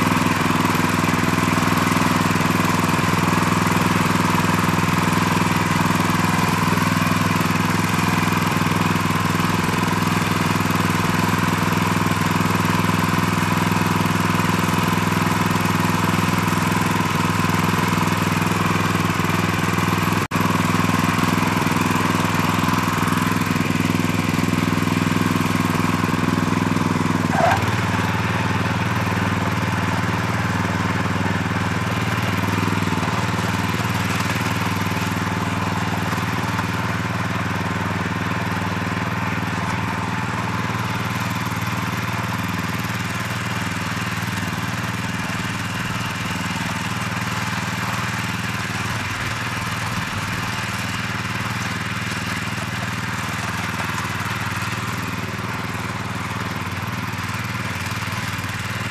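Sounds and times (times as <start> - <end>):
garden tiller engine running: 0.0 - 58.9.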